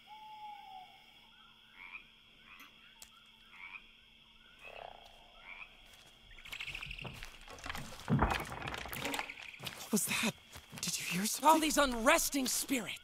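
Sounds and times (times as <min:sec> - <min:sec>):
frogs croaking: 0:00.0 - 0:13.0.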